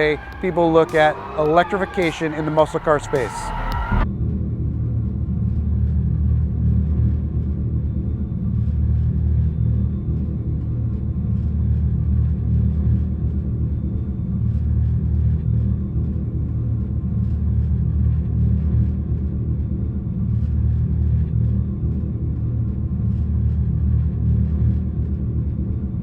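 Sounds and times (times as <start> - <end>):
deep steady rumble: 0.0 - 26.0
music: 0.0 - 26.0.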